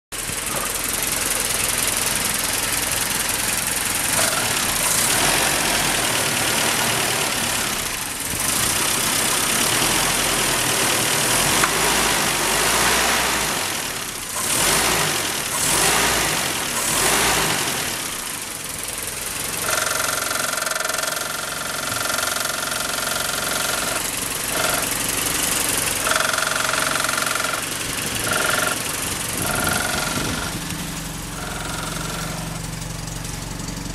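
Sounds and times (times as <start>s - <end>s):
petrol engine revving: 0.2s - 33.9s.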